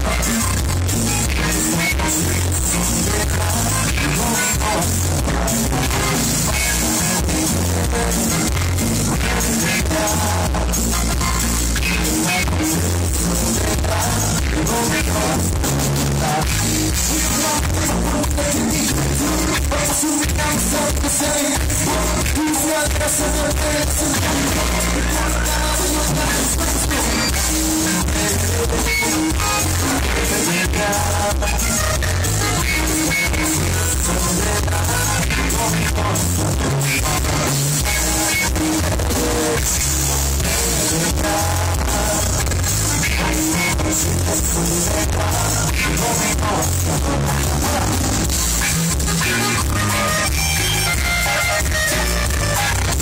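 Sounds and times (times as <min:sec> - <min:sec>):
live band playing: 0:00.0 - 0:53.0
person singing: 0:00.0 - 0:53.0.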